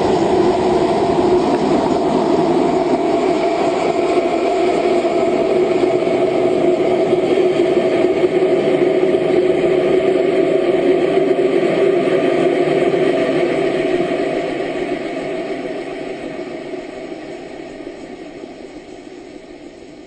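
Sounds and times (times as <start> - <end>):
rocket rushing roar: 0.0 - 19.0.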